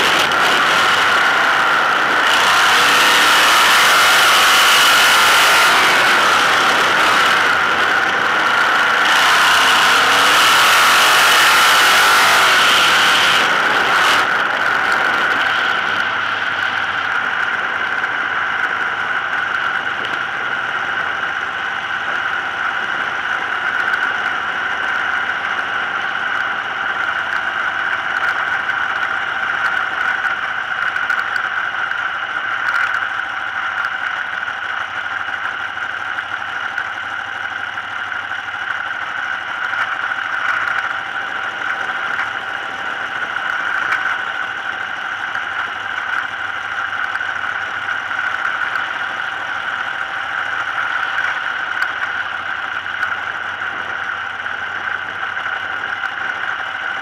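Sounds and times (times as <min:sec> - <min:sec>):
racing car engine running: 0:00.0 - 0:57.0.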